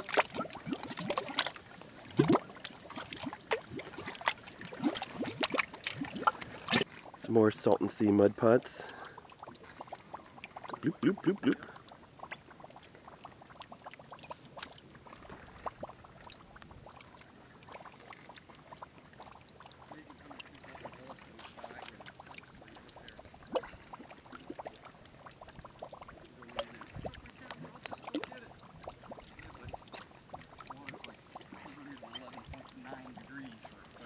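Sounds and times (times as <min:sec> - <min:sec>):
mud bubbling and plopping: 0:00.0 - 0:34.0.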